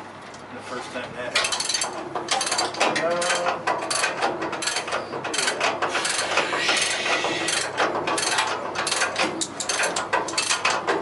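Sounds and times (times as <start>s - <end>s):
ratchet wrench clicking: 1.4s - 10.8s.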